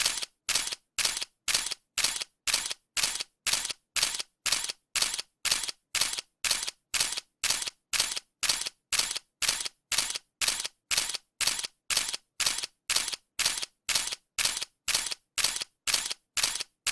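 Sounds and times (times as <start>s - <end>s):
camera shutter clicks: 0.0s - 16.9s.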